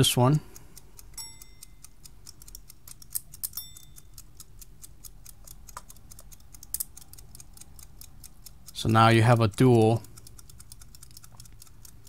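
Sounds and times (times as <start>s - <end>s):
clockwork timers ticking: 0.0s - 12.0s.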